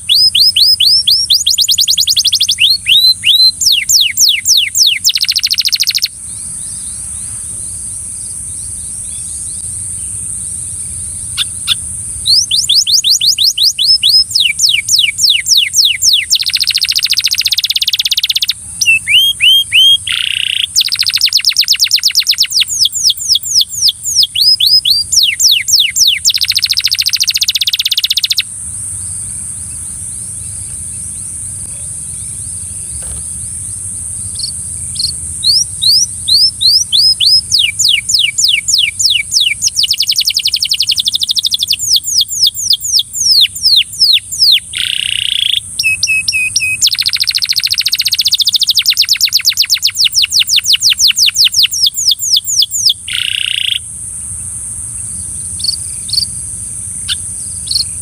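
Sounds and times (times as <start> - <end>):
canary singing fast trills: 0.0 - 54.0, 54.9 - 58.0
steady high-pitched whine: 0.0 - 58.0.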